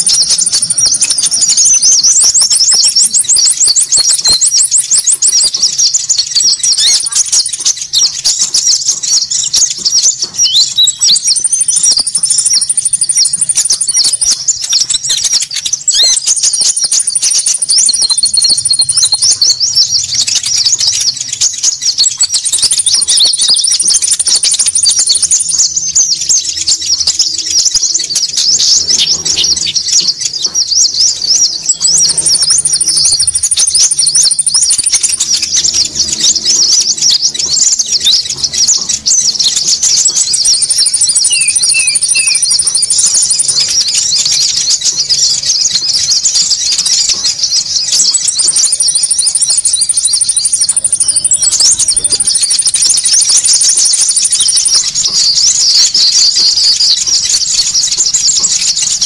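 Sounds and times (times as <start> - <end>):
small birds chirping: 0.0 - 59.0
very high bird trill: 0.0 - 59.0.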